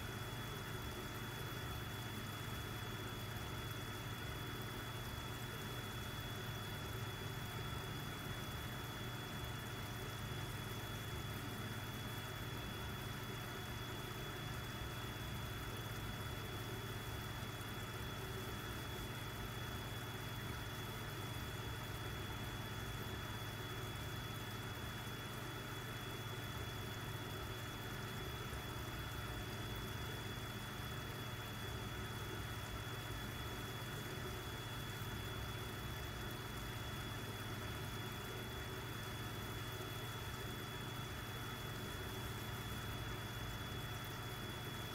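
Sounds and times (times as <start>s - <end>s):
aquarium air pump humming: 0.0s - 44.9s.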